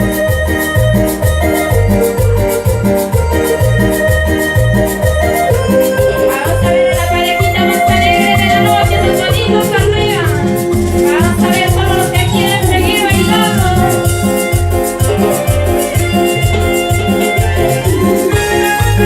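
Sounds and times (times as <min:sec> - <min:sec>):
live latin dance music: 0:00.0 - 0:19.0
sliding melody line: 0:00.0 - 0:19.0
thumping bass beat: 0:00.0 - 0:19.0.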